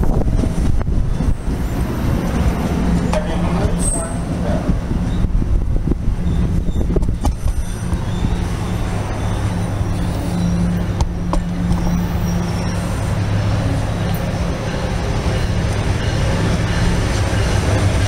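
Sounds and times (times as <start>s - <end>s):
train engine hum: 0.0s - 18.0s
train wheels on rails: 0.0s - 18.0s.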